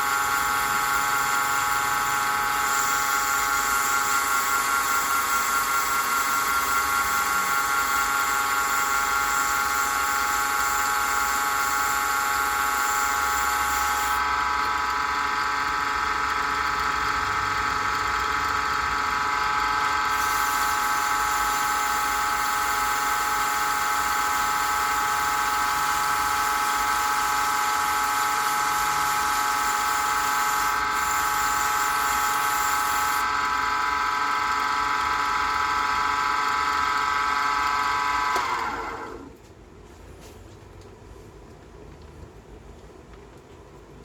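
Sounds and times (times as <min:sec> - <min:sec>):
wood lathe whining: 0:00.0 - 0:39.3.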